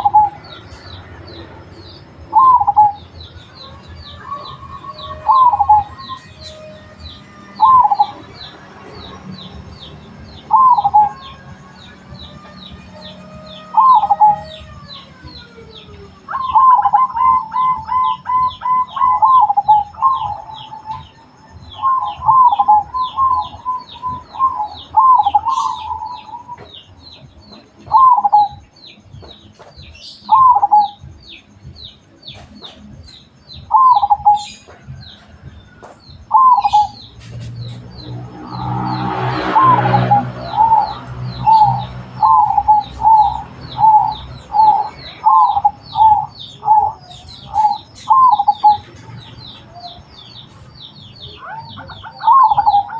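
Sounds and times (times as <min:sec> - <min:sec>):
doves cooing: 0:00.0 - 0:29.3, 0:30.2 - 0:31.2, 0:32.3 - 0:52.9.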